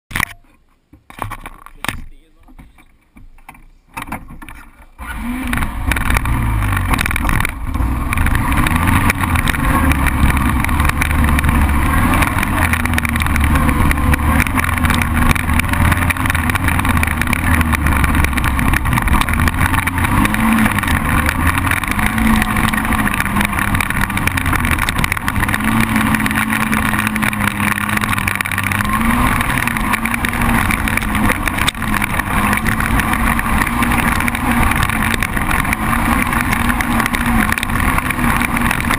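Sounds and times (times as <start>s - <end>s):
quad bike engine revving: 5.0s - 38.9s.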